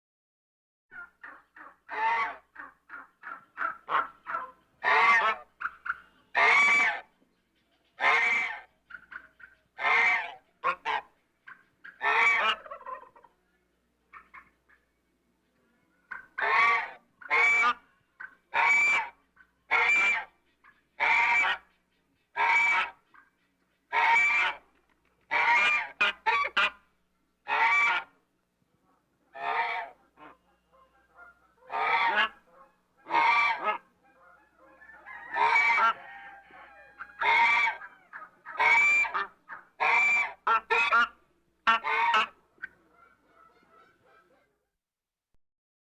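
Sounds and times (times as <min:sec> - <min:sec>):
goose honking: 0:00.9 - 0:07.1, 0:08.0 - 0:13.3, 0:16.1 - 0:21.7, 0:22.4 - 0:23.2, 0:23.9 - 0:24.7, 0:25.3 - 0:28.2, 0:29.3 - 0:44.6.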